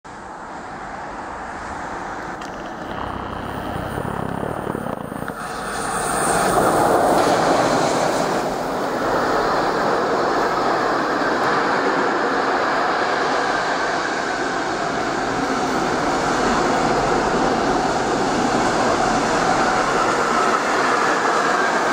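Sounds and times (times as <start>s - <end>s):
locomotive rumble: 1.6s - 21.8s.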